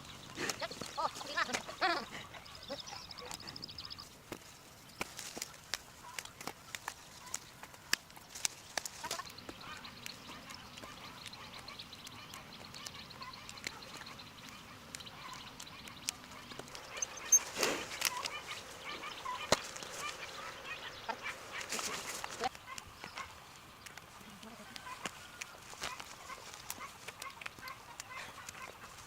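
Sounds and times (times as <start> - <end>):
farm birds calling: 0.0 - 29.0.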